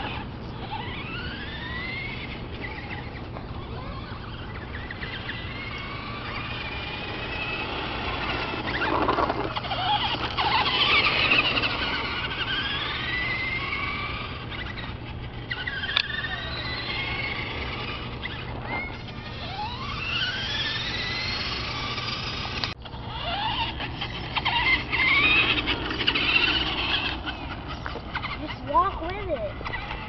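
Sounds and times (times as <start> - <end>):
toy truck electric motor whining: 0.0 - 30.0.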